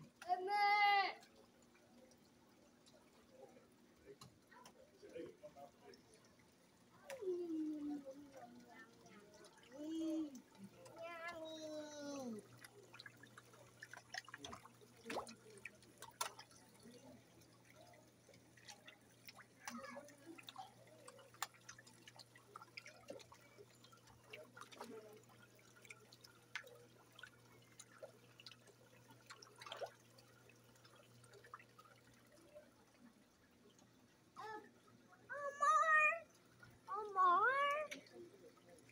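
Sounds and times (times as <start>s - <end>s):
water drips and splashes: 0.0s - 38.9s.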